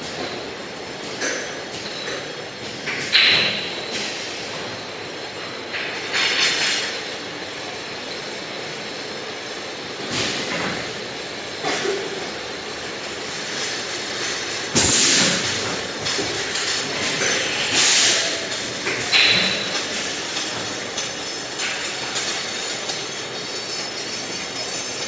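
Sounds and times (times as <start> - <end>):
machine running noise: 0.0 - 25.0.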